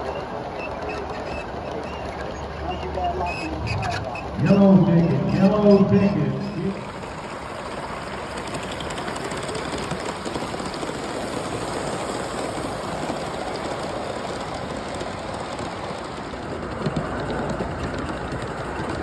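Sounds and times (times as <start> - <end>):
model train rolling clatter: 0.0 - 5.9, 6.6 - 19.0.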